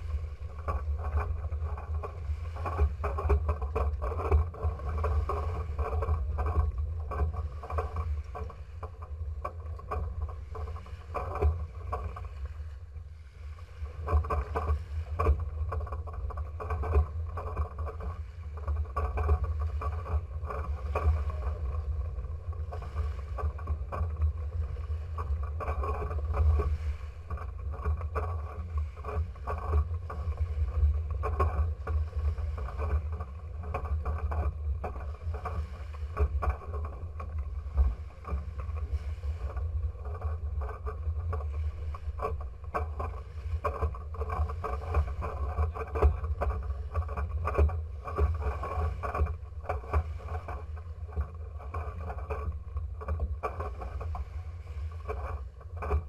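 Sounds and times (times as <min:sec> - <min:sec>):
heavy low rumble: 0:00.0 - 0:51.6
small waves splashing against hull: 0:00.0 - 0:56.0.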